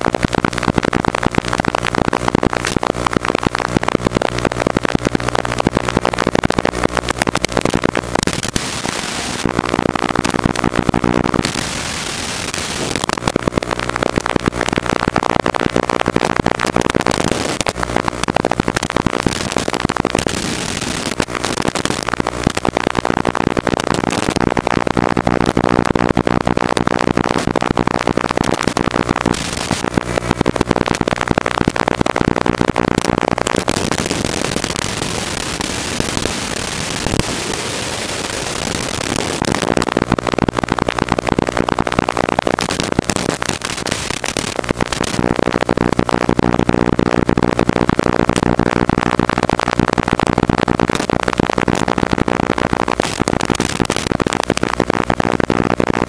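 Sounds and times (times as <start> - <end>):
heavy crackle: 0.0 - 56.0.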